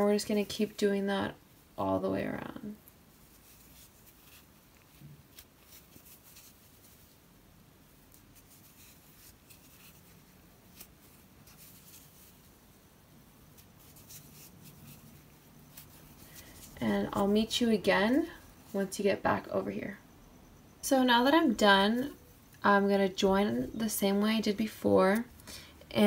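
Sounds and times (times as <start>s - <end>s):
crochet hook scratching yarn: 0.0s - 12.8s, 13.4s - 20.0s, 20.9s - 25.4s.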